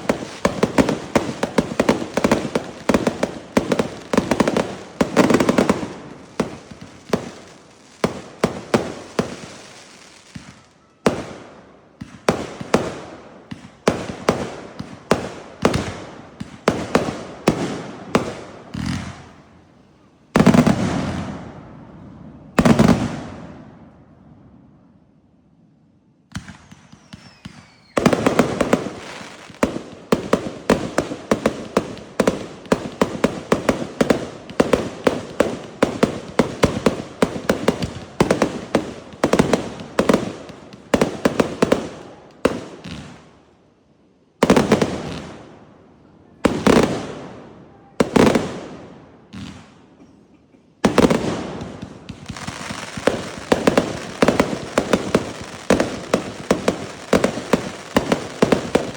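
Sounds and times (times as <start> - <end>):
fireworks cracking and banging: 0.0 - 19.6, 20.3 - 21.6, 22.4 - 23.7, 26.3 - 43.4, 44.4 - 45.6, 46.3 - 58.9.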